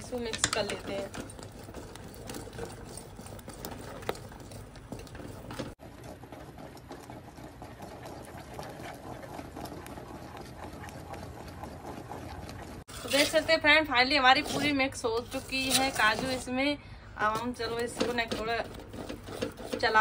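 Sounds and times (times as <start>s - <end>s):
wooden spatula scraping metal pan: 0.0s - 16.6s, 17.2s - 20.0s.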